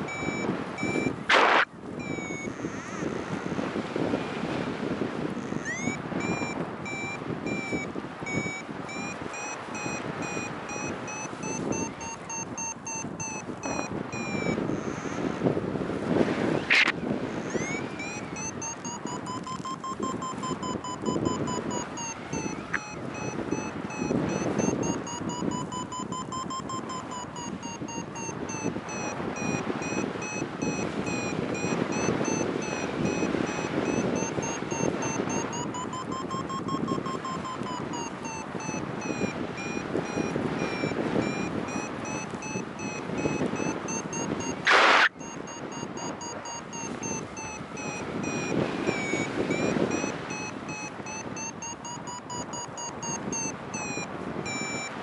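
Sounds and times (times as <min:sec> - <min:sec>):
variometer short beeps: 0:00.0 - 0:04.1, 0:05.2 - 0:55.0
wind rush on microphone: 0:00.0 - 0:55.0.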